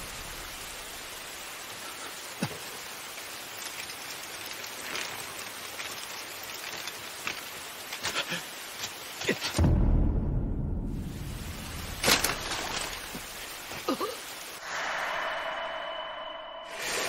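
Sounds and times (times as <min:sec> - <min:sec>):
steady rain falling: 0:00.0 - 0:15.6.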